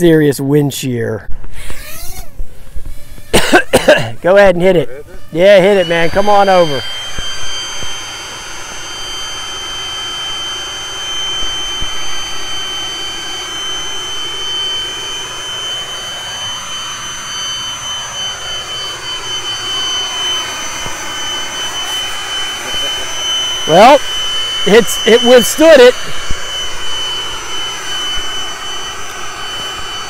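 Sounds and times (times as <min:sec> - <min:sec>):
leaf blower running: 0:01.4 - 0:30.0.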